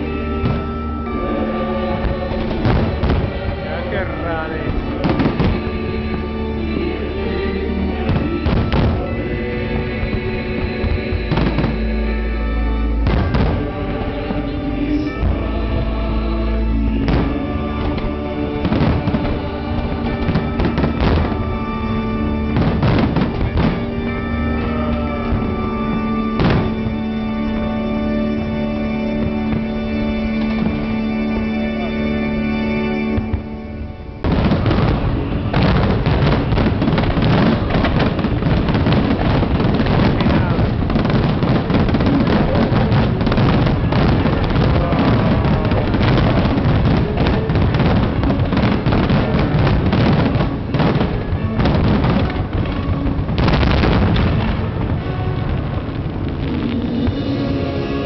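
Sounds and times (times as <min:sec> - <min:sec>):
fireworks bursting: 0:00.0 - 0:58.0
loud music with held notes: 0:00.0 - 0:58.0.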